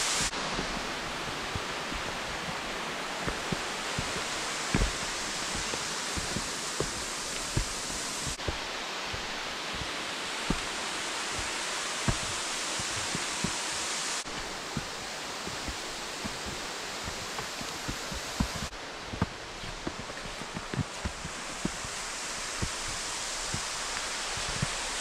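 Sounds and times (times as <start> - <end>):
flowing water hiss: 0.0 - 25.0.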